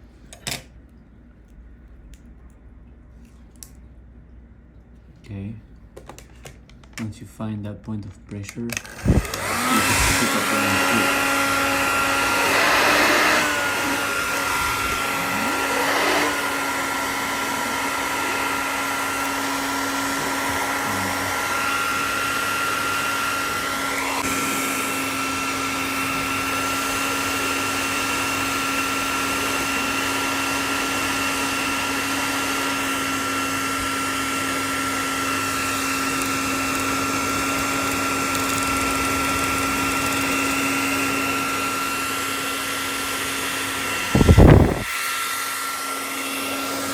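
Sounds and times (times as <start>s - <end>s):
hot-air blower fan whine: 5.1s - 46.9s.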